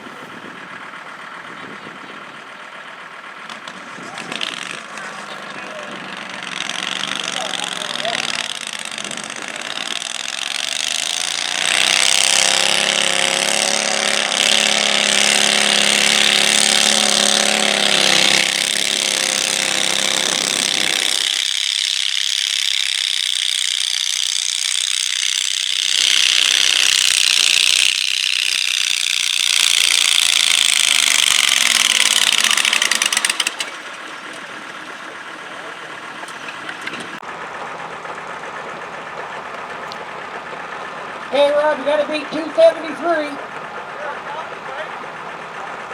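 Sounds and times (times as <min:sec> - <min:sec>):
tractor engine under load: 0:00.0 - 0:45.9
high rattling clatter: 0:00.3 - 0:45.9.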